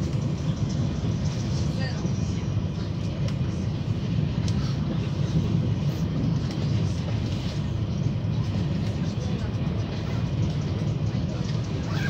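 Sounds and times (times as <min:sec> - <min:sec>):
train rumble and rush: 0:00.0 - 0:12.0.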